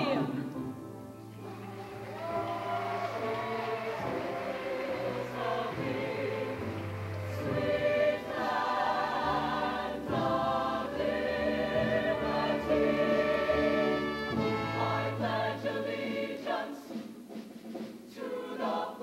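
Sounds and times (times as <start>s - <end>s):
choir singing in harmony: 1.4s - 19.0s.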